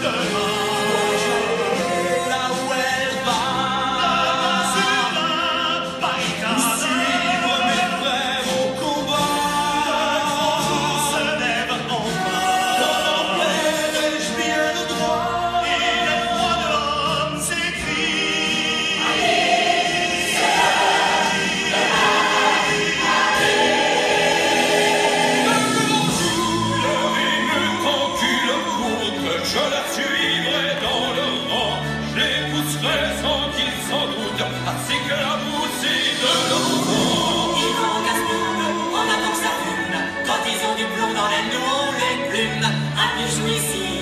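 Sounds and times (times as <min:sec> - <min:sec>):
instrumental accompaniment: 0:00.0 - 0:44.0
musical theatre song over speakers: 0:00.0 - 0:44.0
voices singing together: 0:00.0 - 0:44.0.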